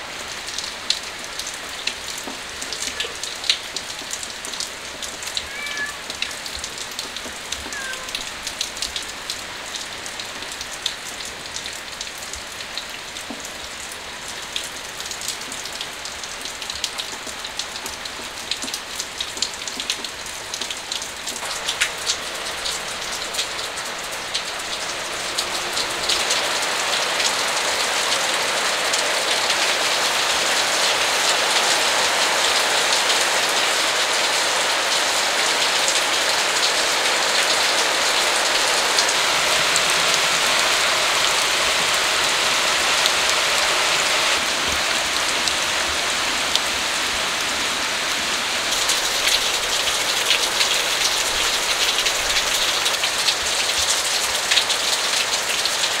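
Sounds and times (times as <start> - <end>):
rain falling: 0.0 - 56.0
sharp drips and ticks: 0.0 - 56.0.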